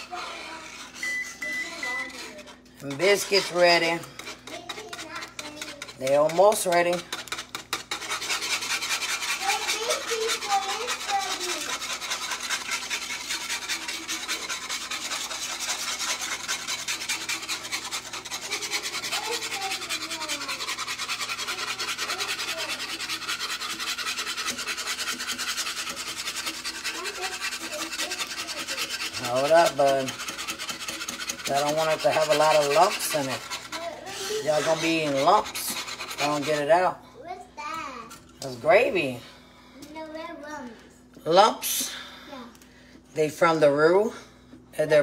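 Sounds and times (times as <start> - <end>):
whisk scraping a skillet: 0.0 - 37.0.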